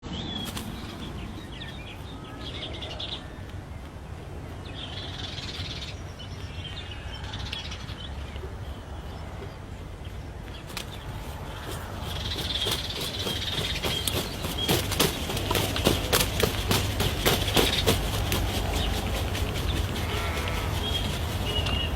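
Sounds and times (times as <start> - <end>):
birds chirping: 0.0 - 21.9
steady low rumble: 0.0 - 21.9.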